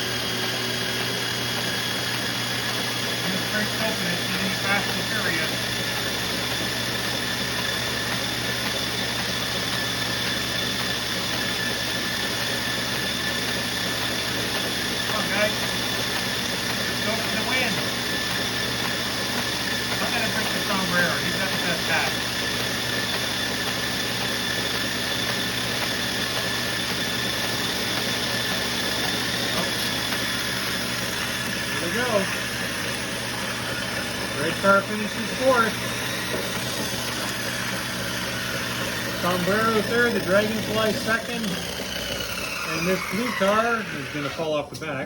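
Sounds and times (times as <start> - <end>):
treadmill whirring: 0.0 - 45.0.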